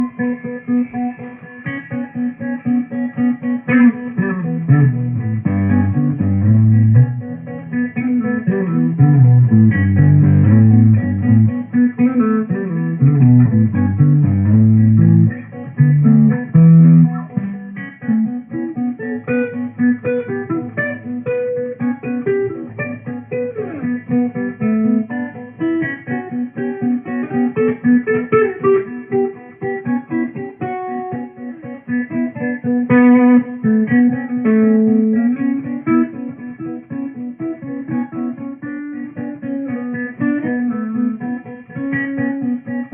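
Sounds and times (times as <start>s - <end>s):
guitar repeated picked note: 0.0s - 42.9s
higher guitar single-note lines: 0.0s - 42.9s
low guitar melody: 0.0s - 42.9s.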